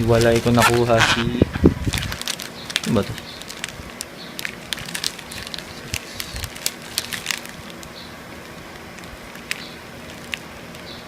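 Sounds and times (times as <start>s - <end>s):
plastic clicks and crinkles: 1.9s - 10.9s.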